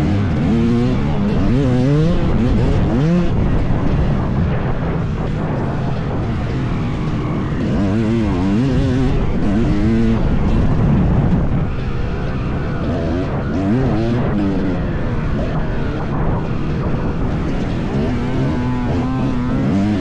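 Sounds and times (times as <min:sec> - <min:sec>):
dirt bike engine revving: 0:00.0 - 0:20.0
steady rushing noise: 0:00.0 - 0:20.0.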